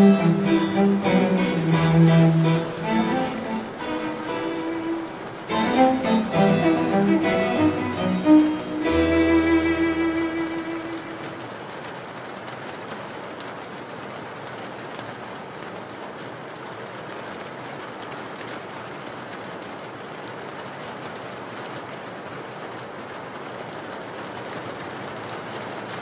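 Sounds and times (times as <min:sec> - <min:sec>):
rain on window glass: 0:00.0 - 0:26.0.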